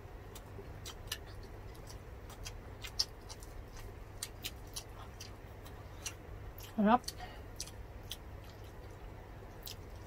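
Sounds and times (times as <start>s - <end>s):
low steady hum: 0.0s - 10.0s
people chewing: 0.2s - 10.0s.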